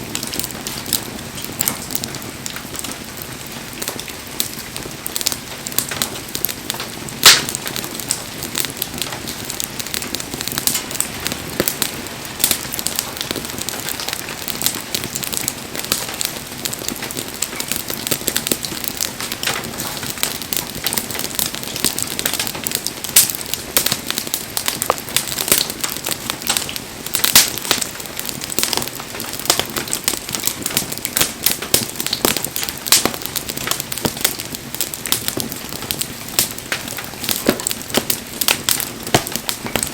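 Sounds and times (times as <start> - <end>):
burning logs popping: 0.0 - 39.9
wood fire crackling: 0.0 - 39.9.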